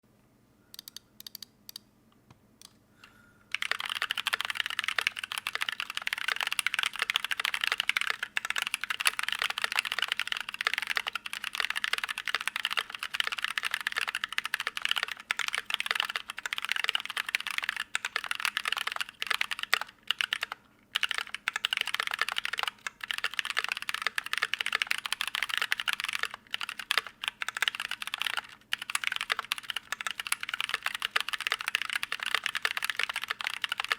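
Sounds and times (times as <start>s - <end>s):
mechanical keyboard typing: 0.8s - 1.8s, 3.5s - 33.9s.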